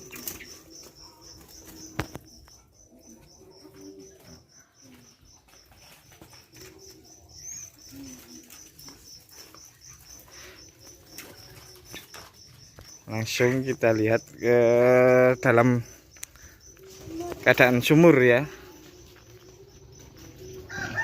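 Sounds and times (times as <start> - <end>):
doves cooing: 0.0 - 21.0
high-pitched pulsing chirping: 0.0 - 21.0.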